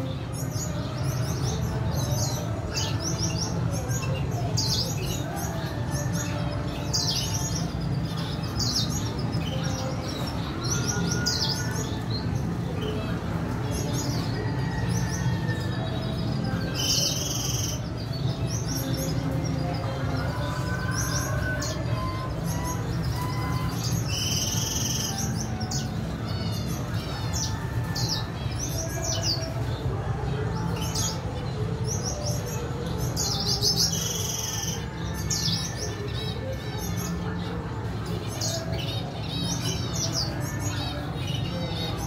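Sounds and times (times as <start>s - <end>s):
birds chirping and twittering: 0.0s - 42.0s.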